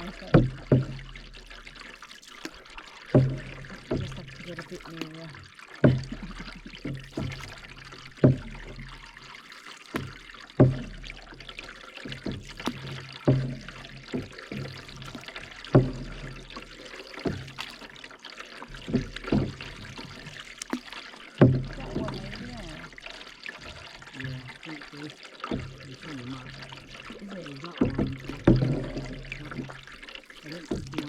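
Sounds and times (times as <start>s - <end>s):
paddles splashing in water: 0.0s - 31.0s
water dripping off paddles: 0.0s - 31.0s.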